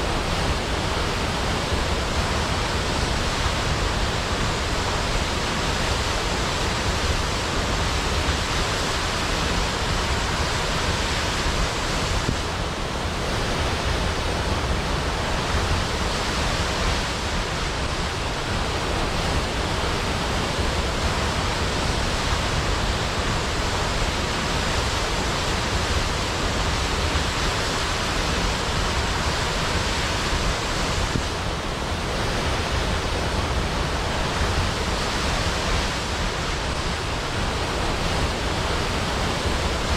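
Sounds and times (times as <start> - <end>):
large waterfall crashing: 0.0 - 39.9.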